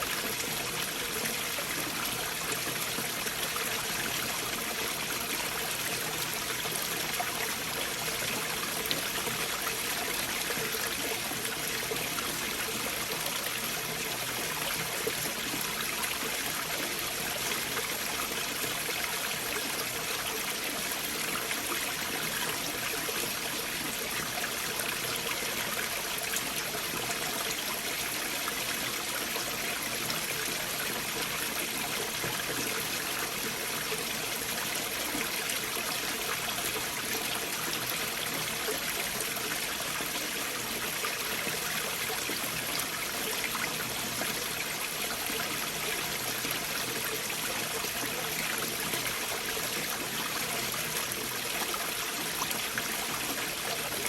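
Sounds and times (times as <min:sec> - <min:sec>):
stream water flowing over boulders: 0:00.0 - 0:54.0.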